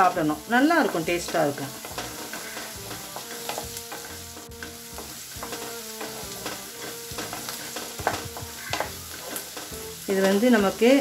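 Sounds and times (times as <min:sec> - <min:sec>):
onions sizzling in a pan: 0:00.0 - 0:11.0
wooden spatula scraping a pan: 0:00.5 - 0:11.0.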